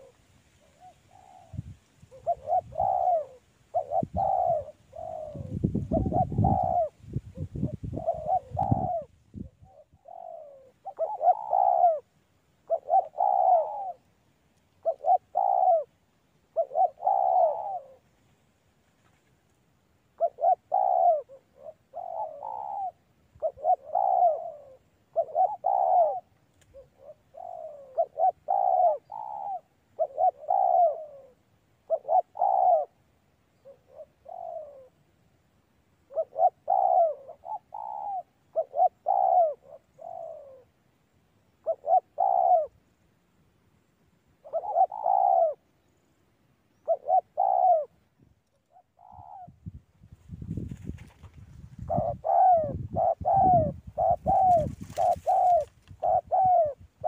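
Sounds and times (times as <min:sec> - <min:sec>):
dove cooing: 0:00.0 - 0:18.2, 0:20.1 - 0:35.1, 0:36.0 - 0:40.8, 0:41.5 - 0:42.8, 0:44.4 - 0:46.0, 0:46.7 - 0:49.8, 0:50.4 - 0:57.0.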